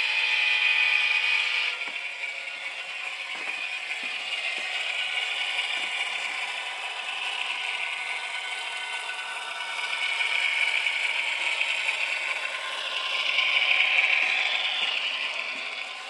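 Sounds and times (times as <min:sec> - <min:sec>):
model locomotive whir and rattle: 0:00.0 - 0:16.0.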